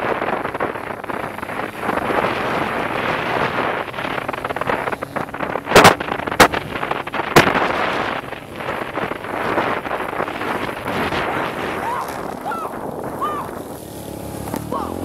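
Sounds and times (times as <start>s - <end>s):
dirt bike engine running: 0.0s - 15.0s
wind buffeting microphone: 0.0s - 15.0s.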